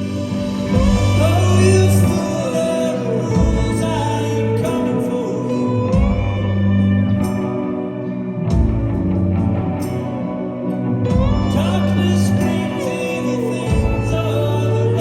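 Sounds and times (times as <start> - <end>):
person singing: 0.0 - 8.1, 11.0 - 15.0
guitars: 0.0 - 15.0
held bass notes: 0.0 - 15.0.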